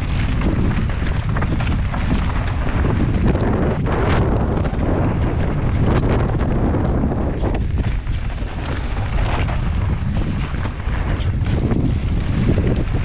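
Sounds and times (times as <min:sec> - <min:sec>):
bike knocks and rattles: 0:00.0 - 0:13.0
tyres rumbling on dirt trail: 0:00.0 - 0:13.0
wind buffeting microphone: 0:00.0 - 0:13.0.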